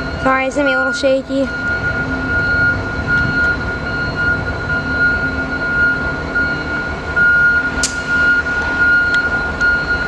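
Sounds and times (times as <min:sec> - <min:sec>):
freight train rumbling slowly: 0:00.0 - 0:10.0
high-pitched whine: 0:00.0 - 0:10.0.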